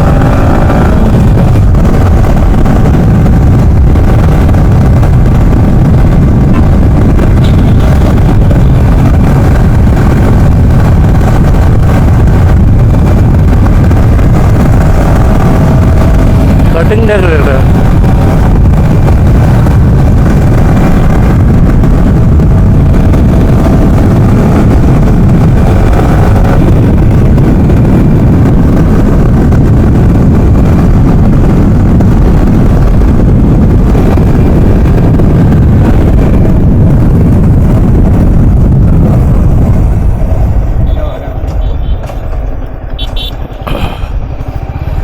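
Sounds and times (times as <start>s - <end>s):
faint engine hum: 0.0s - 45.0s
wind and road noise: 0.0s - 45.0s.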